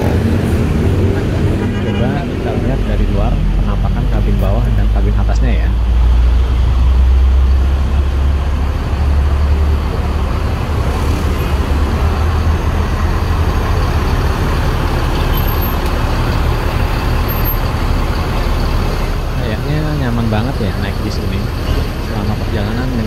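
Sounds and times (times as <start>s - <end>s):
diesel bus engine rumbling: 0.0s - 23.0s
road traffic: 0.0s - 23.0s.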